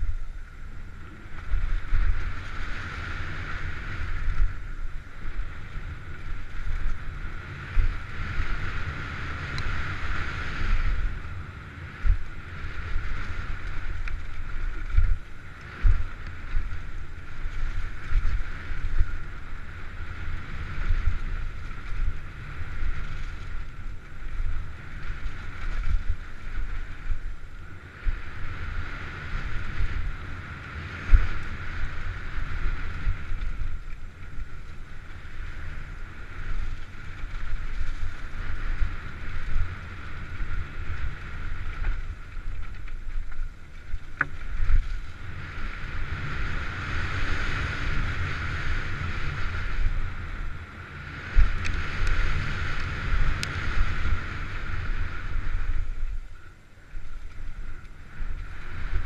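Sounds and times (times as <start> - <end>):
steady rushing noise: 0.0 - 59.0
wind buffeting microphone: 0.0 - 59.0.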